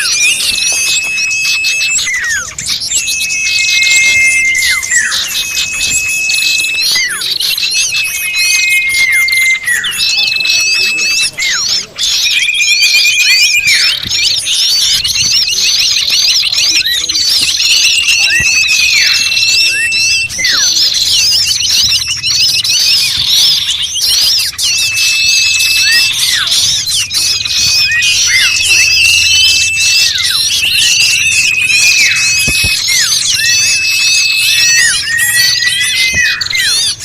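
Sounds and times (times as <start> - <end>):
long level whistles: 0.0 - 37.0
small birds chirping and trilling: 0.0 - 37.0.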